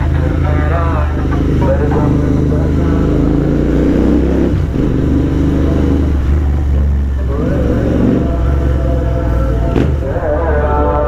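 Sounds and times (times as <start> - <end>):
motorcycle engine running loudly: 0.0 - 11.0.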